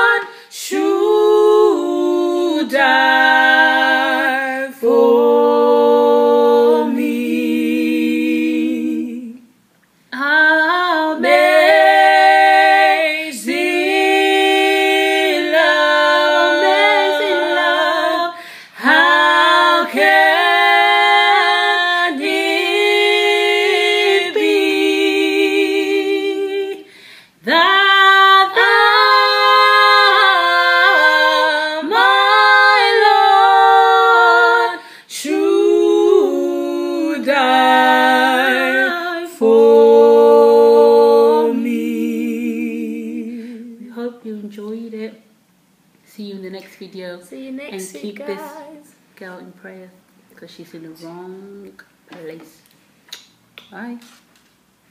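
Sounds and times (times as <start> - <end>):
women singing a cappella: 0.0 - 45.4, 47.7 - 49.7.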